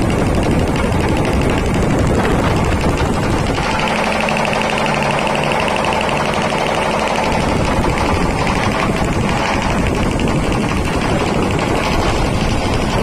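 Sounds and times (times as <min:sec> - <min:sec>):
air compressor pump pulsing: 0:00.0 - 0:13.0.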